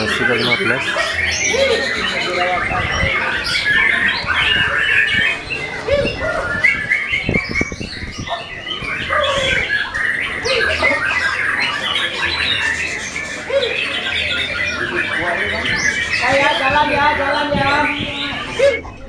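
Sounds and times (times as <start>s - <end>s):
birds singing in chorus: 0.0s - 19.0s.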